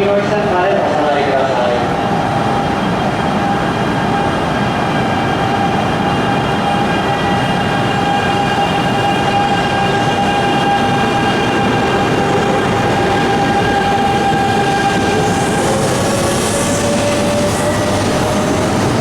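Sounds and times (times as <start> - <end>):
train running rumble: 0.0 - 19.0
train electrical whine: 0.1 - 19.0.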